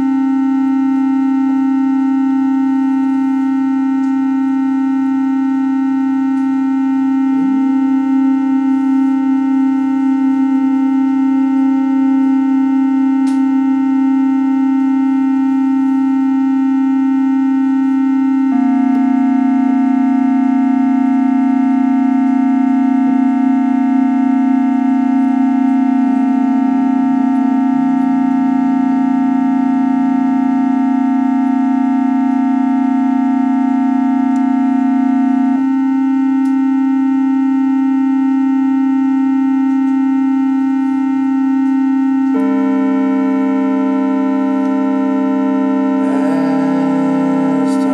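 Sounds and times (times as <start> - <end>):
electric organ droning chord: 0.0 - 37.2, 39.7 - 47.9.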